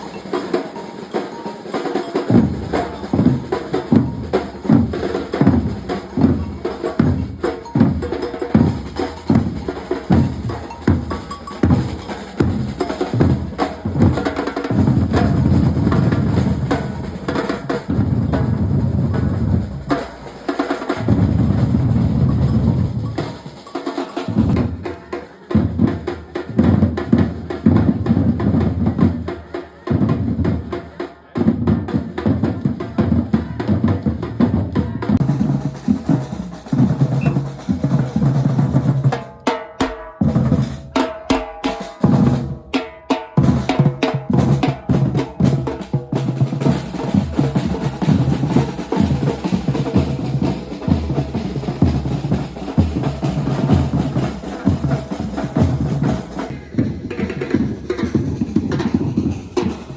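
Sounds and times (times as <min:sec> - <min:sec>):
drum ensemble: 0:00.0 - 0:59.9.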